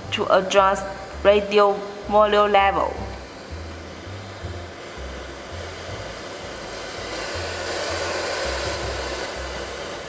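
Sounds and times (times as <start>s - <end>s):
low bass line: 0.0s - 10.0s
radio static hiss: 0.0s - 10.0s.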